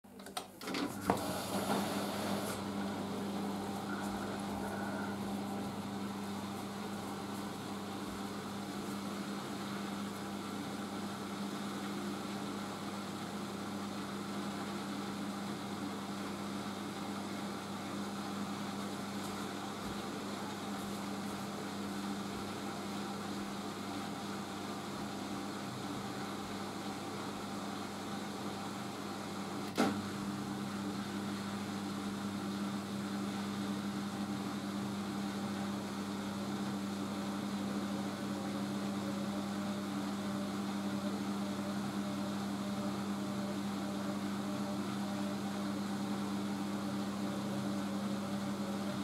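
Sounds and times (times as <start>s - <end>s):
washing machine low hum: 0.1s - 49.0s.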